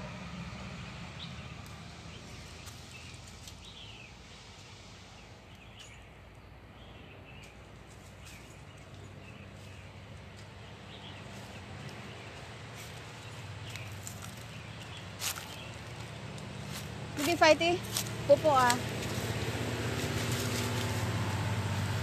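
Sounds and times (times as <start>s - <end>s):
dry leaves rustling: 1.2s - 5.9s, 7.4s - 22.0s.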